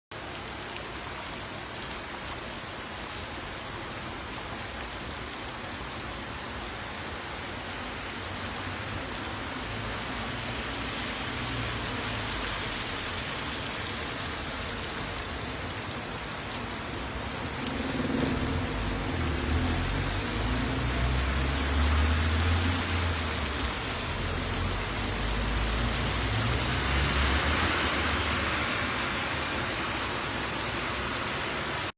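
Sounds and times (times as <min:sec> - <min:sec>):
heavy rain falling: 0:00.1 - 0:31.9.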